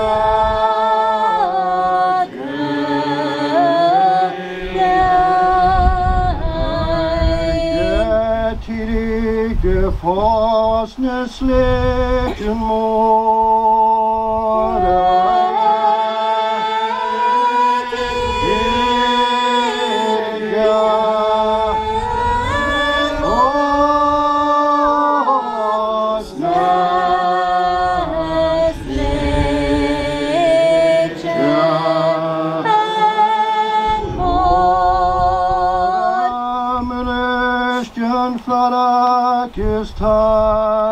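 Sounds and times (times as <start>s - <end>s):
congregation singing unaccompanied: 0.0s - 40.9s.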